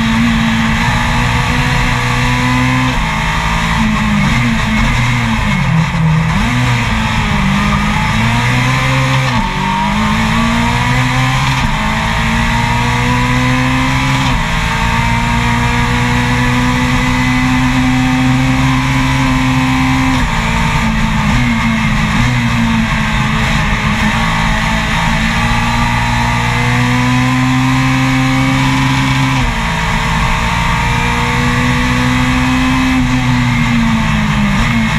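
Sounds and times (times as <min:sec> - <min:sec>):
race car engine revving: 0:00.0 - 0:34.9
wind and road noise: 0:00.0 - 0:34.9.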